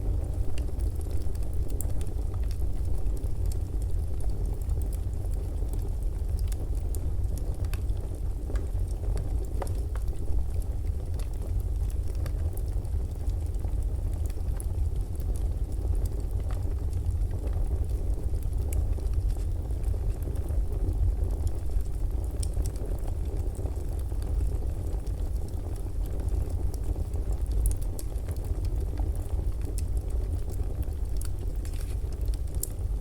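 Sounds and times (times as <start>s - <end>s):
fireplace crackling: 0.0s - 33.0s.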